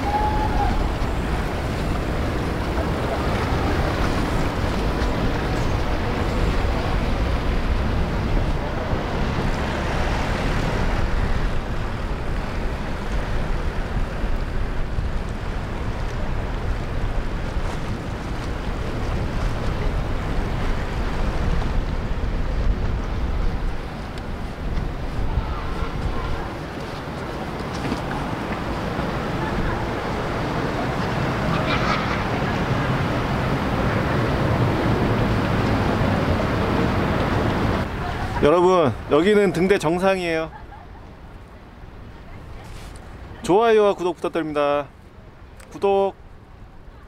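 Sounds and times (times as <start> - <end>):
wind blowing on microphone: 0.0 - 40.0.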